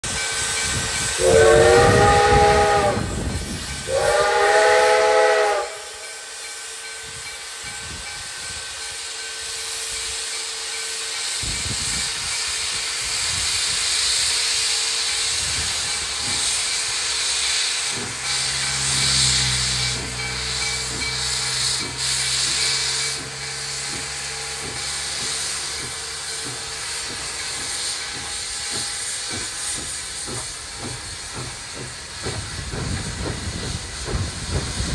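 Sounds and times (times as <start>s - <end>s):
steam locomotive chime whistle: 0.0s - 12.5s, 14.6s - 31.9s
steam hissing: 0.0s - 34.9s.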